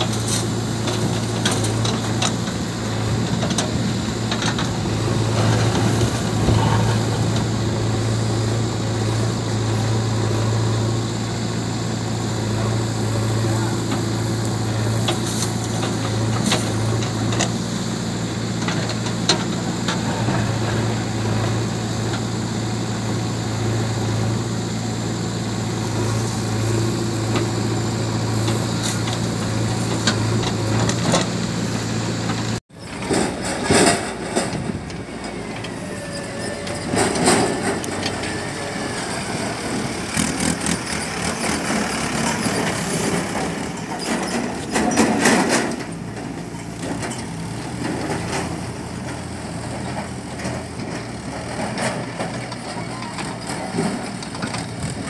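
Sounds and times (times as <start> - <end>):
diesel engine humming: 0.0 - 55.0
distant rough engine noise: 0.0 - 55.0.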